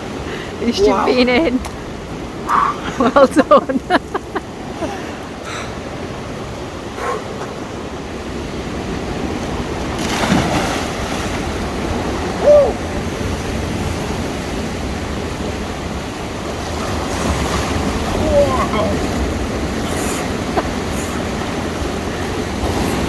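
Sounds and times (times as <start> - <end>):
sea waves crashing: 0.0 - 23.0.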